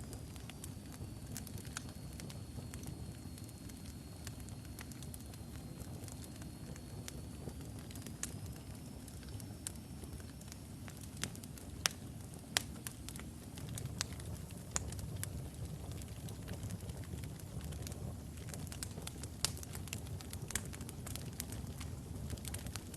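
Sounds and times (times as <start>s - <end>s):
fire rumbling: 0.0s - 22.9s
wood crackling and popping: 0.0s - 22.9s.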